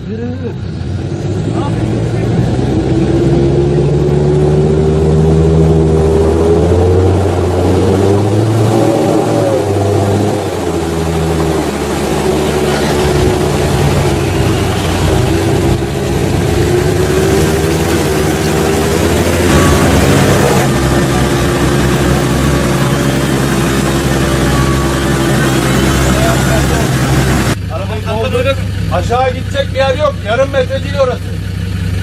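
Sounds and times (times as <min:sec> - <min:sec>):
off-road vehicle engine under load: 0:00.0 - 0:32.0.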